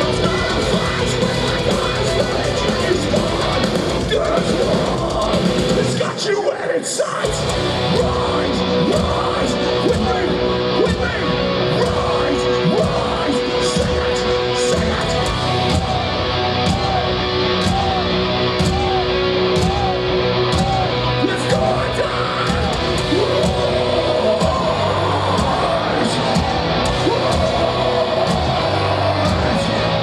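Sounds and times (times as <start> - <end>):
distorted electric guitars: 0.0 - 30.0
drums: 0.0 - 30.0.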